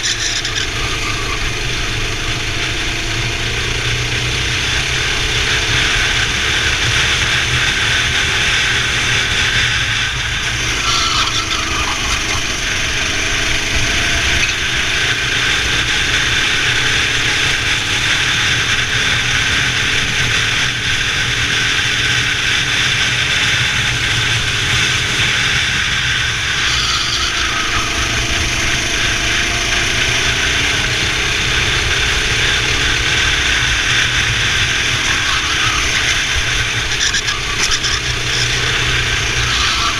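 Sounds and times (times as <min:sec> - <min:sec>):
racing kart engine at speed: 0:00.0 - 0:39.9.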